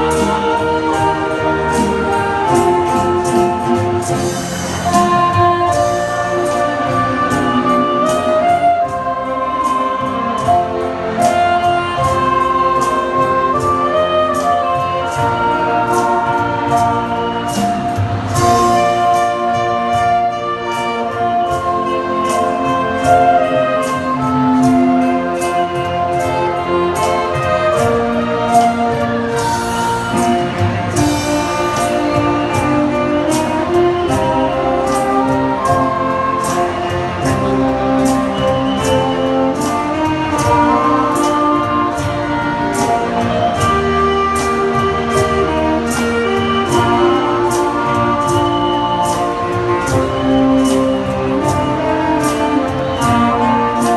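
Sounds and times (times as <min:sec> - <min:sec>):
saxophone ensemble playing: 0:00.0 - 0:53.9
steady beat: 0:00.0 - 0:53.9.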